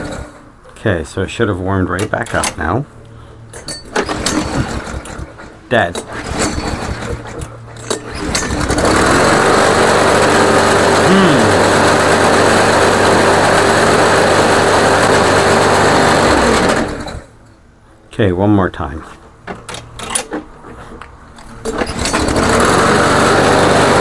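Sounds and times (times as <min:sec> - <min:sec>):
lawn mower engine running: 0:00.0 - 0:00.7, 0:01.9 - 0:17.5, 0:19.1 - 0:24.0.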